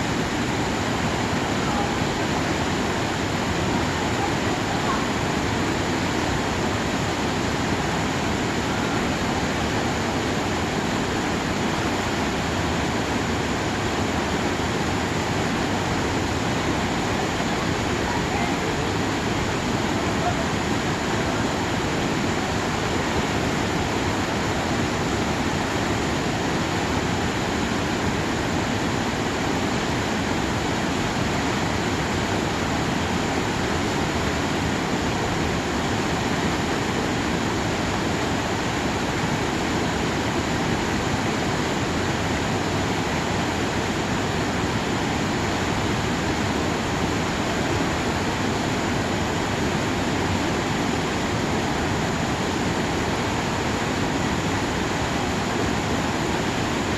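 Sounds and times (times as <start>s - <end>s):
stream of rushing water: 0.0s - 56.9s.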